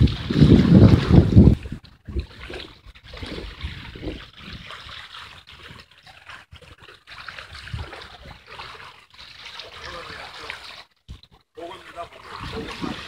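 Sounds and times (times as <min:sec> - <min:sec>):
sea water lapping at rocks: 0:00.0 - 0:13.0.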